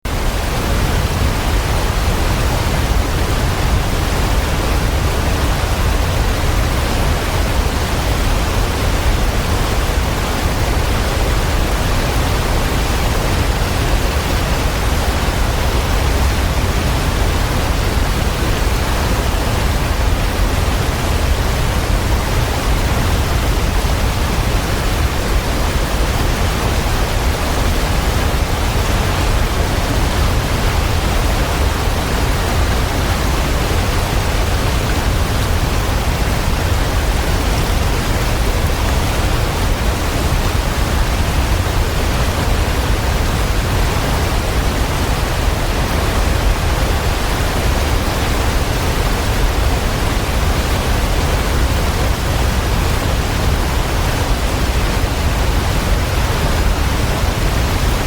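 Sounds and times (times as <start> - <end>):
waterfall rushing: 0.1 - 58.0.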